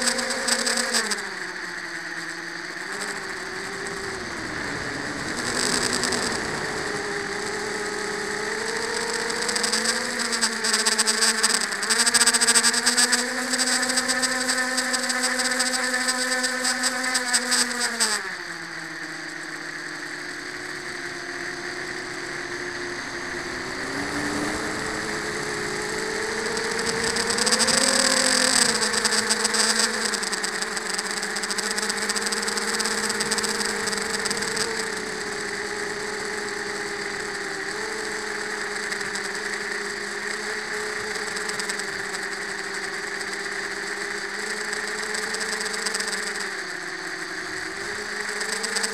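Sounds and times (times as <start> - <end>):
drone motors whining: 0.0 - 48.9.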